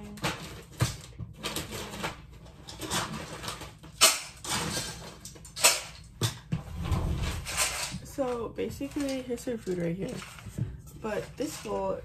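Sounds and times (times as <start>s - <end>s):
steel bowl rattling: 0.0s - 12.0s.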